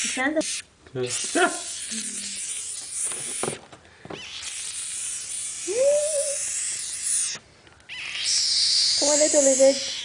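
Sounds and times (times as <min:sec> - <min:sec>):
lizard hissing: 0:00.0 - 0:03.6, 0:04.2 - 0:10.0.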